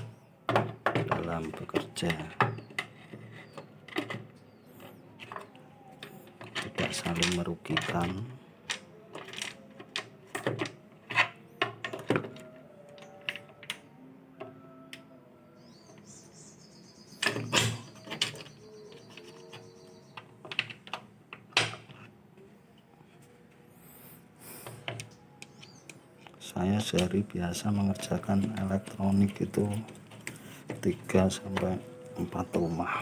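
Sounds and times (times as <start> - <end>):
tools clicking and knocking on parts: 0.0 - 15.1, 17.2 - 22.1, 24.6 - 32.9.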